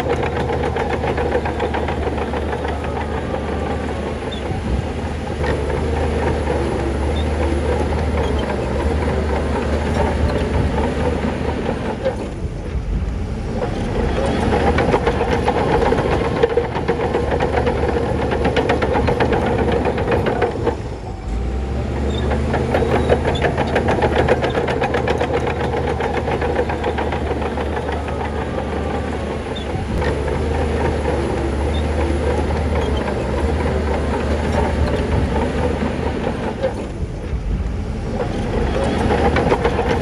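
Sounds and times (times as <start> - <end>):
bulldozer diesel engine: 0.0 - 40.0
steel tracks clattering: 0.0 - 40.0.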